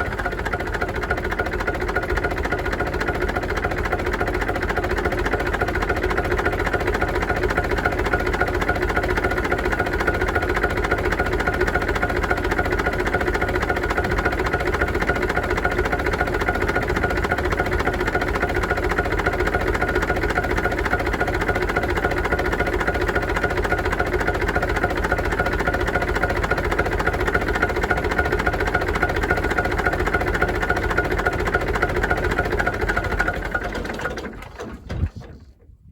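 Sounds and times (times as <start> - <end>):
tractor diesel engine clatter: 0.0 - 35.6.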